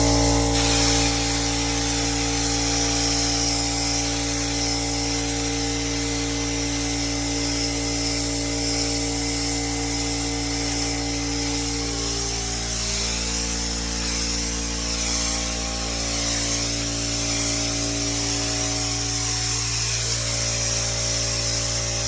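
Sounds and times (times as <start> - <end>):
texture sprayer machine hum: 0.0 - 22.0.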